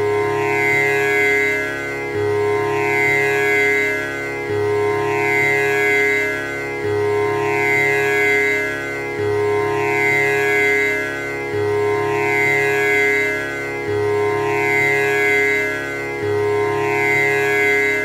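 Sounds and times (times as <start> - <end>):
tanpura drone: 0.0 - 18.0.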